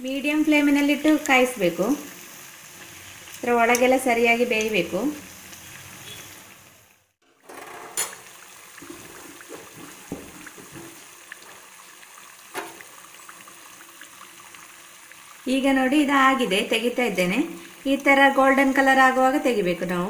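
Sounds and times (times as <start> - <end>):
fritters sizzling in hot oil: 0.0 - 20.0.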